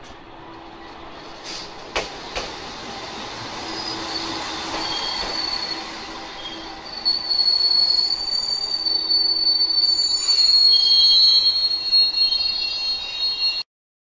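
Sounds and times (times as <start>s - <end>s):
diesel railcar moving slowly: 0.0s - 13.6s
steel wheels squealing: 0.8s - 13.7s.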